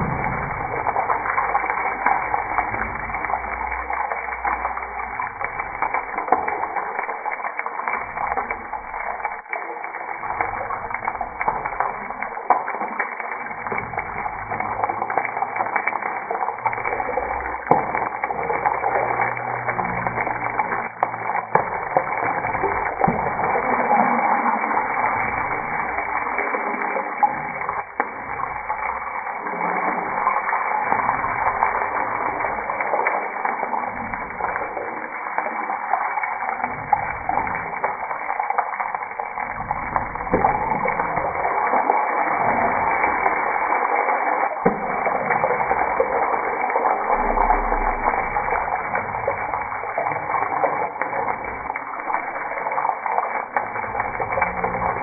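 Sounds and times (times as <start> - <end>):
hot oil sizzling in a pan: 0.0 - 55.0.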